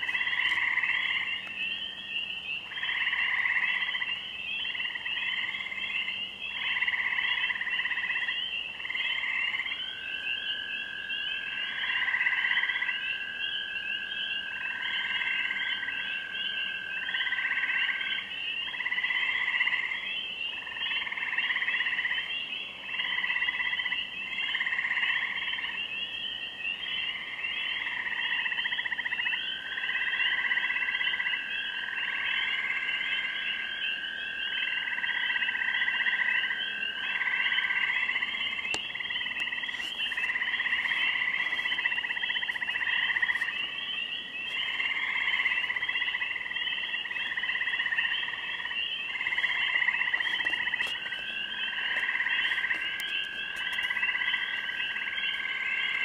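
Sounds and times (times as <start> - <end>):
frog trills: 0.0 - 56.0
frogs peeping: 0.0 - 56.0.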